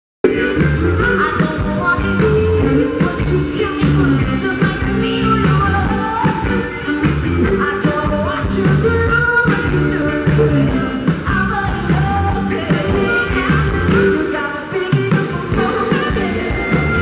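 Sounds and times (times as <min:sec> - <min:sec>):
bass guitar: 0:00.2 - 0:17.0
drums: 0:00.2 - 0:17.0
electric guitar: 0:00.2 - 0:17.0
women singing: 0:00.3 - 0:06.6, 0:07.4 - 0:17.0.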